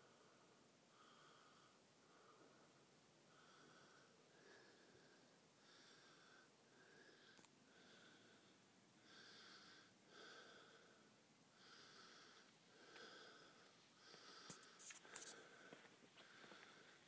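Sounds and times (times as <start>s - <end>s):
wheezy breathing: 0.0s - 17.0s.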